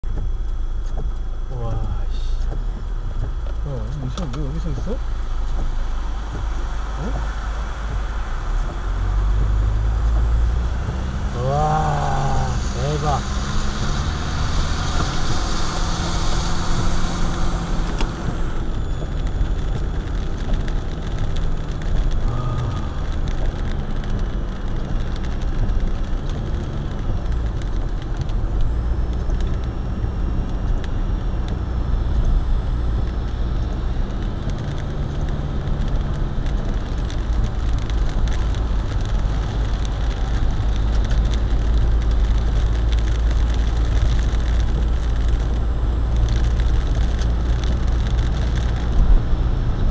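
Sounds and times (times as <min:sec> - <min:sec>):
car engine hum: 0:00.0 - 0:49.9
rain hitting car: 0:00.0 - 0:49.9
tyres rumbling on wet road: 0:00.0 - 0:49.9.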